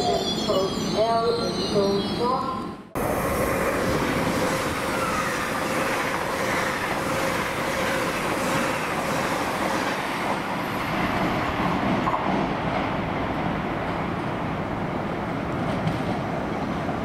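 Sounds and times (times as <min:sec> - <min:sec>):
train running: 0:00.0 - 0:17.0.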